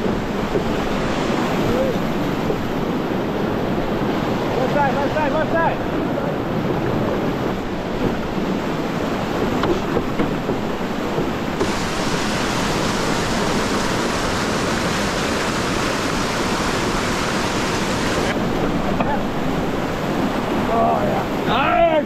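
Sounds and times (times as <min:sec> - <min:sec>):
whitewater rushing over a weir: 0:00.0 - 0:22.0.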